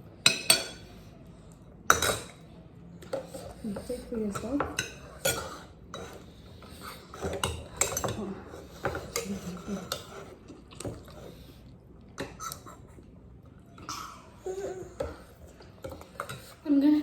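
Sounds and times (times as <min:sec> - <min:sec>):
utensils clinking against a dish: 0:00.2 - 0:01.2, 0:01.8 - 0:11.5, 0:13.7 - 0:17.0.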